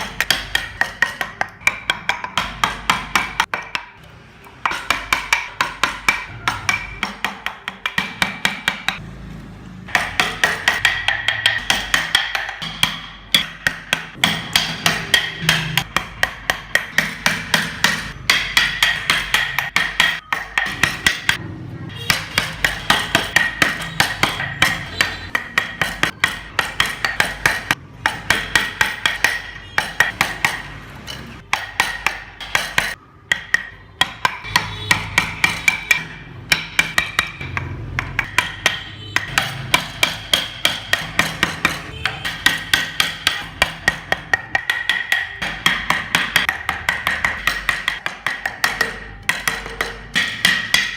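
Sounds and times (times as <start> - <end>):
mallet tapping chisel into wood: 0.0 - 9.0, 9.9 - 21.4, 22.0 - 50.9.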